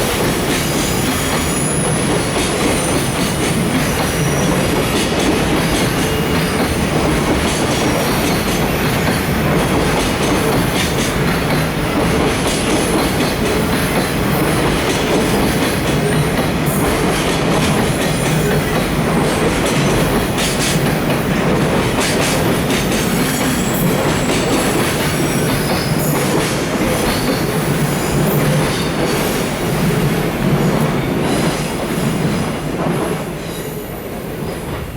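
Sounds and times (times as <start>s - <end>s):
train clattering: 0.0s - 34.9s
train wheels rumbling on rail: 0.0s - 34.9s.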